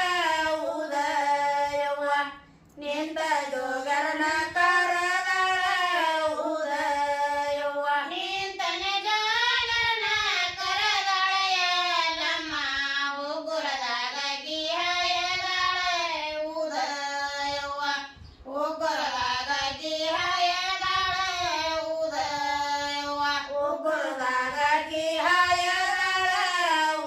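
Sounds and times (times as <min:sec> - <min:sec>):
women singing in unison: 0:00.0 - 0:27.0.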